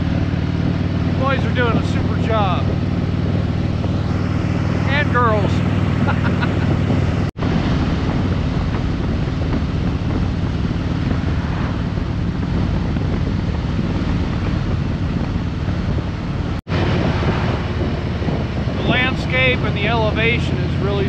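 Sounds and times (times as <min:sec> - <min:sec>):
motorcycle engine drone: 0:00.0 - 0:21.0
road noise: 0:00.0 - 0:21.0
wind buffeting microphone: 0:00.0 - 0:21.0.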